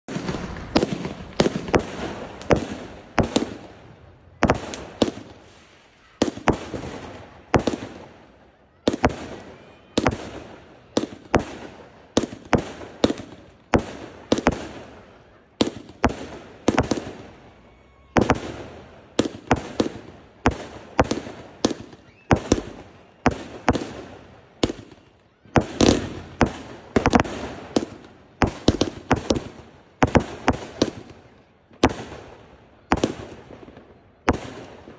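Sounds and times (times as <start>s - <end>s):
fireworks bursting with echoing bangs: 0.1s - 34.9s.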